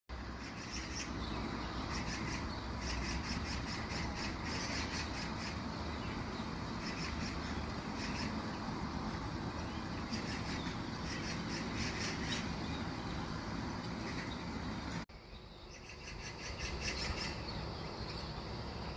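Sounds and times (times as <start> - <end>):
small birds chirping: 0.1 - 18.9.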